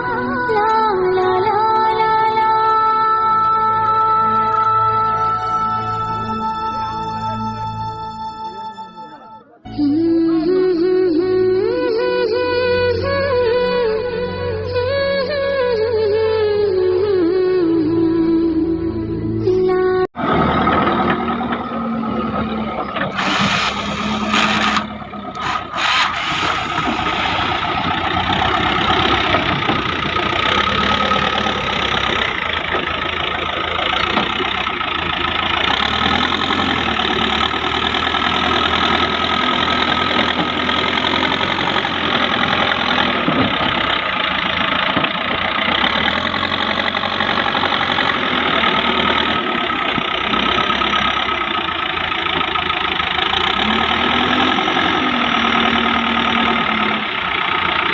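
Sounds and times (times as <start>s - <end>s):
diesel machinery engine running: 0.0s - 57.9s.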